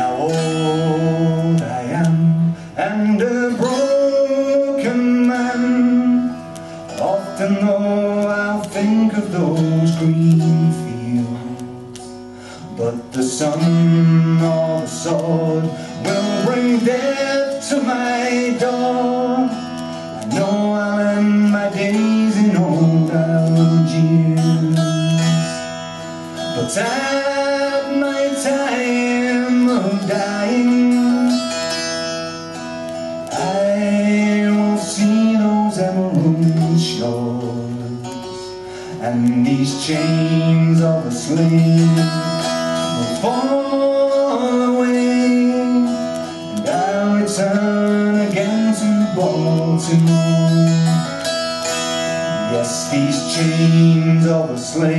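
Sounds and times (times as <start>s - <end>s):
man singing wordlessly: 0.0s - 25.8s, 26.4s - 32.0s, 33.2s - 51.3s, 52.1s - 54.9s.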